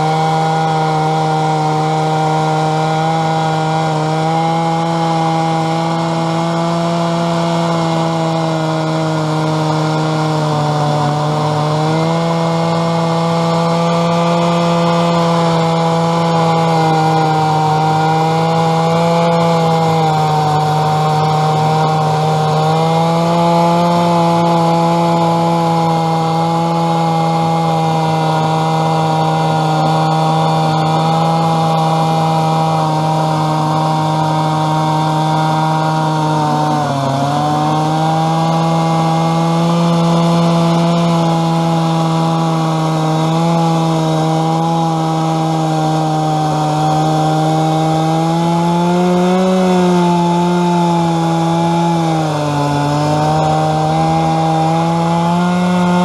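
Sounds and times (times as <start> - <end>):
chainsaw ripping a log: 0.0 - 56.0.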